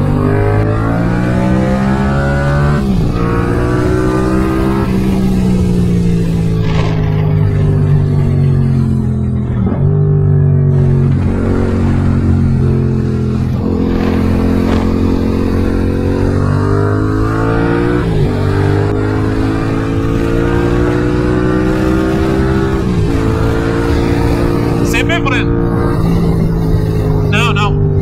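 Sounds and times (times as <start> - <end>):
motorcycle engine revving through gears: 0.0 - 28.0.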